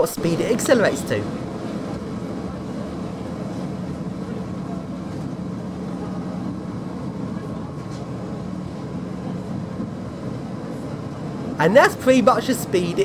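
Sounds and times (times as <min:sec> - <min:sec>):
tram motor hum: 0:00.0 - 0:13.0.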